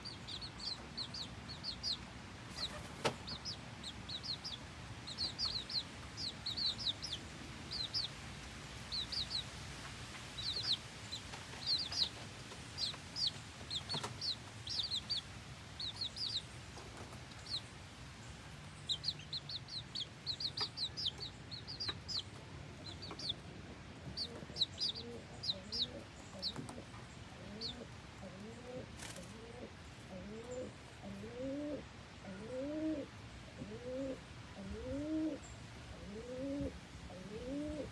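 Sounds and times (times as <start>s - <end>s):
chicks peeping: 0.0s - 35.4s.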